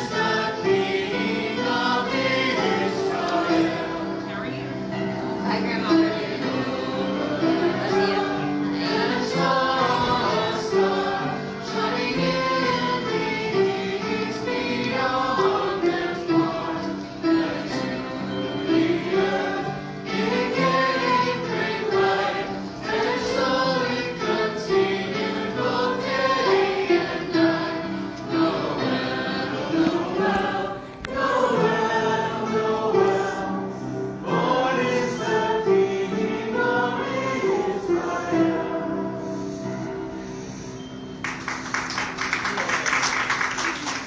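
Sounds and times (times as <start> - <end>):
group singing a carol: 0.0 - 40.7.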